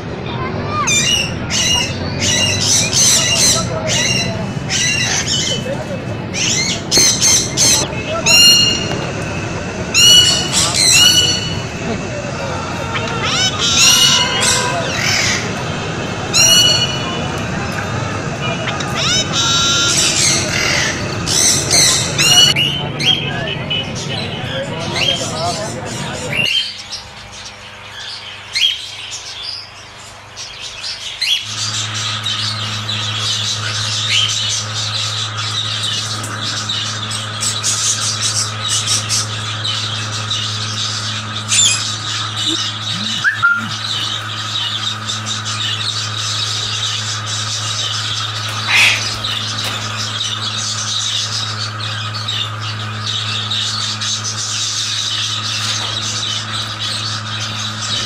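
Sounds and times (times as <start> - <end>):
parrots chattering and squawking: 0.0 - 58.0
steady low hum: 0.0 - 58.0.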